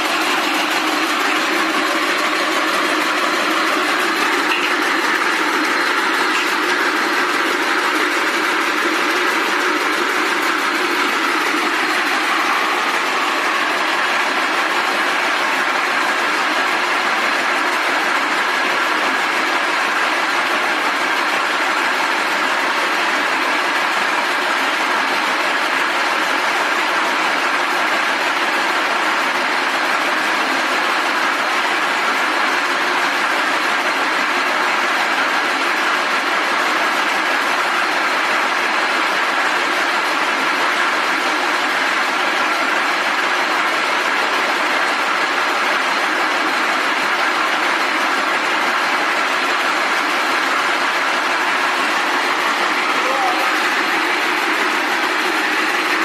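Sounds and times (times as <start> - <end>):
braiding machines running: 0.0 - 56.0.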